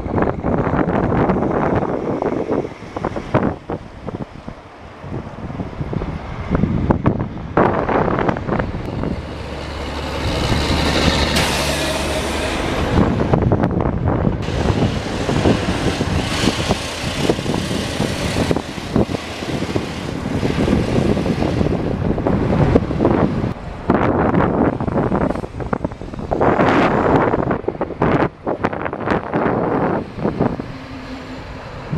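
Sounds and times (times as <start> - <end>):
highway traffic passing: 0.0 - 31.9
truck engine hum passing: 0.7 - 31.9.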